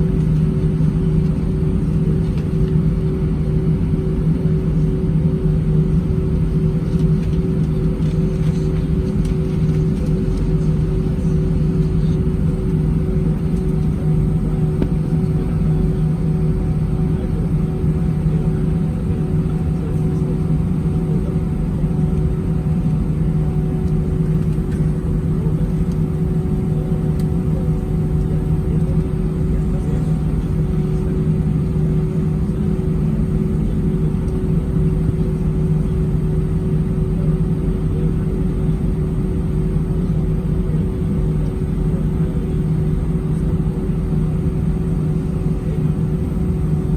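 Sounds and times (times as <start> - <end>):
airliner cabin rumble: 0.0 - 46.9
steady hum: 0.0 - 46.9.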